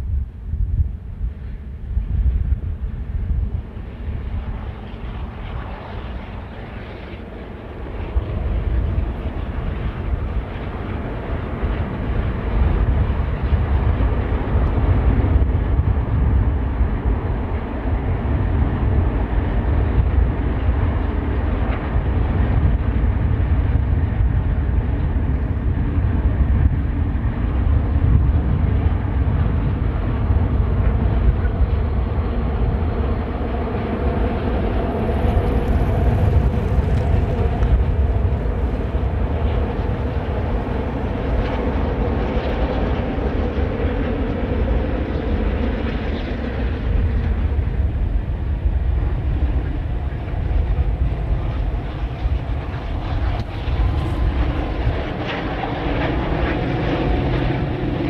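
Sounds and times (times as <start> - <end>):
diesel locomotive engine rumble: 8.1 - 45.6, 46.8 - 58.0.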